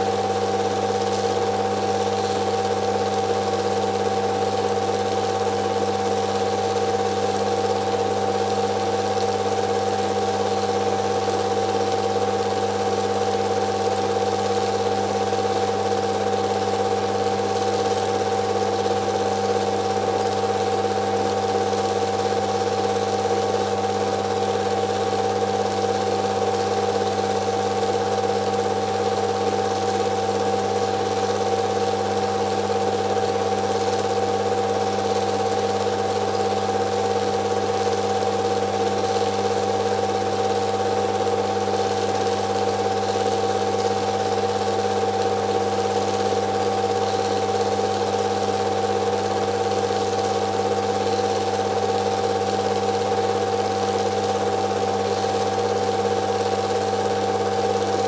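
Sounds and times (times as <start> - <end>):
film projector motor whirring: 0.0 - 58.0.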